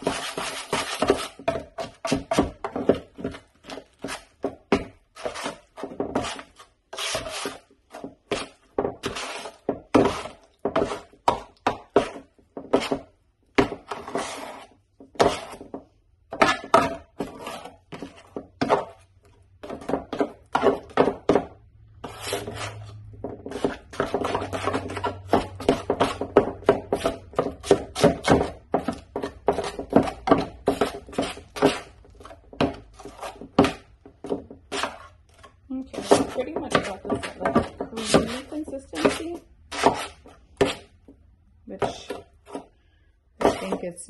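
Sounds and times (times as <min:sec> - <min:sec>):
putty knife scraping metal pan: 0:00.0 - 0:41.0, 0:43.4 - 0:43.9.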